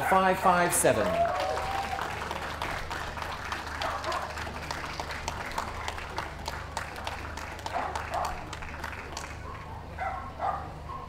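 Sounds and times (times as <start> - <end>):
crowd applauding: 0.0 - 10.0
low steady hum: 0.0 - 11.0.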